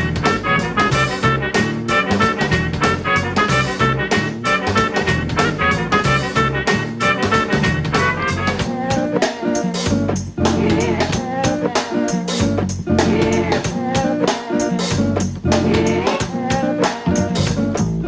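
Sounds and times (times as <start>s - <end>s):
drum kit playing: 0.0s - 18.0s
keyboard tones: 0.0s - 18.0s
upright bass notes: 0.0s - 18.0s.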